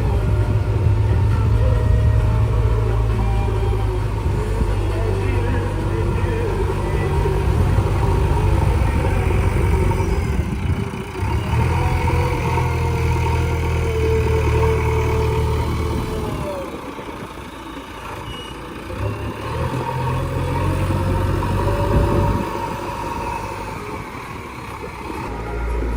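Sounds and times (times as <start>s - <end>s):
diesel machinery engine humming: 0.0s - 25.9s.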